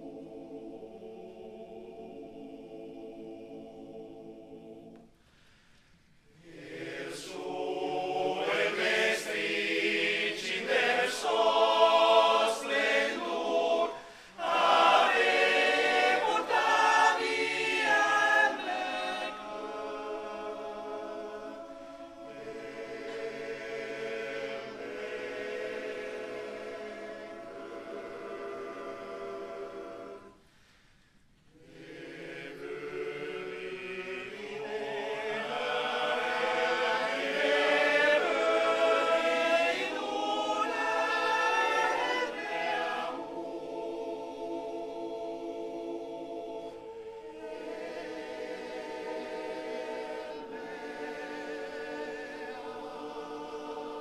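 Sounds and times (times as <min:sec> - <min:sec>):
male choir singing a cappella: 0:00.0 - 0:05.1, 0:06.4 - 0:30.4, 0:31.5 - 0:54.0.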